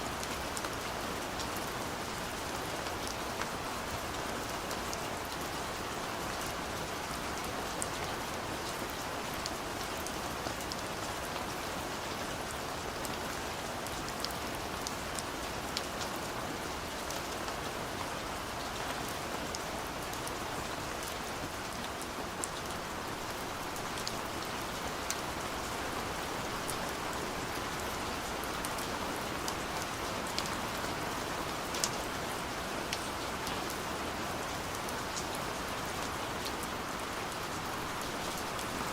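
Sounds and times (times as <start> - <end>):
steady rain hiss: 0.0 - 38.9
raindrops ticking on a surface: 0.1 - 38.9.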